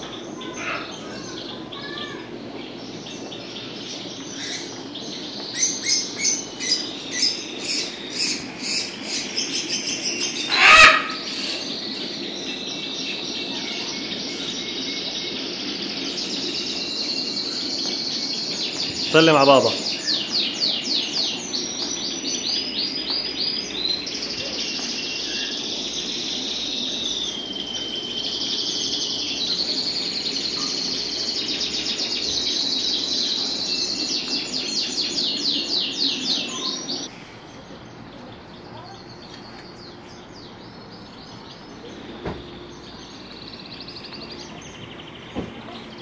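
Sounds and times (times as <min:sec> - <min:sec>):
caged birds chirping: 0:00.0 - 0:46.0.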